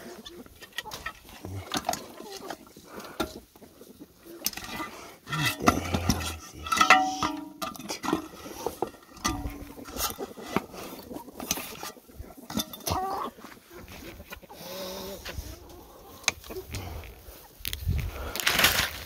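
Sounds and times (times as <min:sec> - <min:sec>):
chickens clucking: 0:00.0 - 0:17.6.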